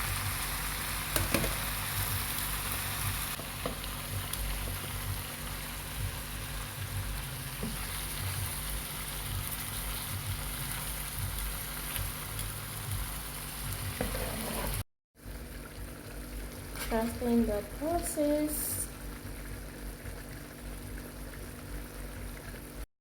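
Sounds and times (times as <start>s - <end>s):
chicken sizzling in a pan: 0.0s - 22.9s.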